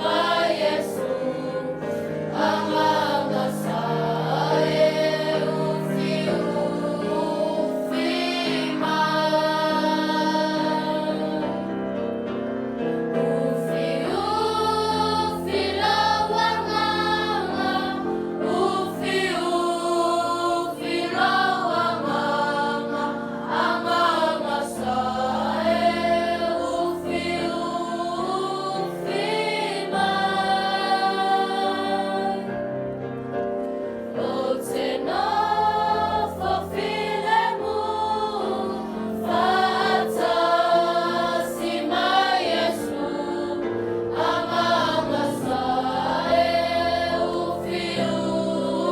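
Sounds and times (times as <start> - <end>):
choir singing a hymn: 0.0 - 48.9.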